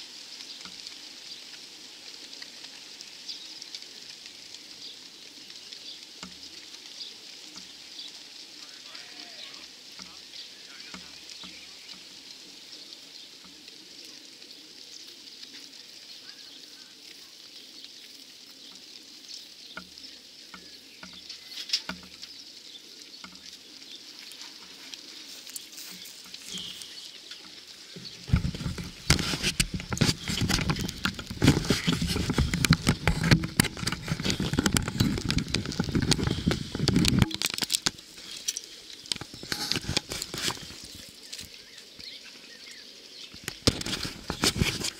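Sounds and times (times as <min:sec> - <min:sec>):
flock of wings beating: 0:00.0 - 0:44.9.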